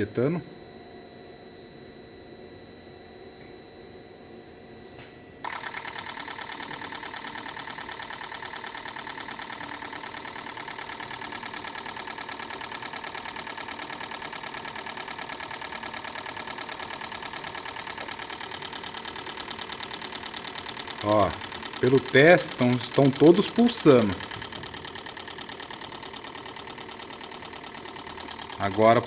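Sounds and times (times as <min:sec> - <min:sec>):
fuel injectors clattering: 0:05.4 - 0:29.0.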